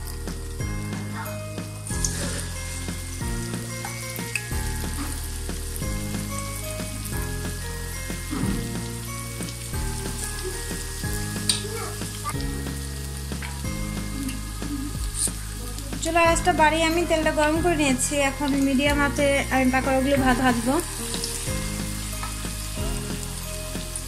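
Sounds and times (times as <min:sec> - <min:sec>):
background music with held notes: 0:00.0 - 0:24.0
batter sizzling in hot oil: 0:00.0 - 0:24.0.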